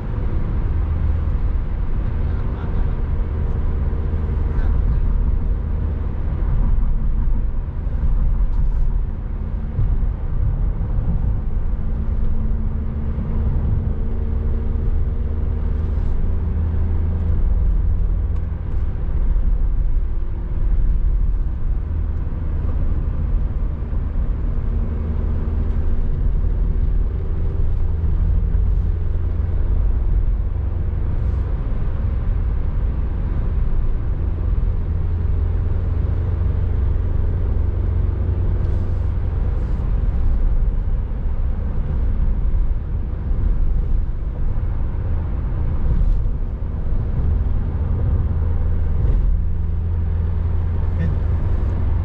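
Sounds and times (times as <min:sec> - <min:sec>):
car road and engine rumble: 0:00.0 - 0:52.0.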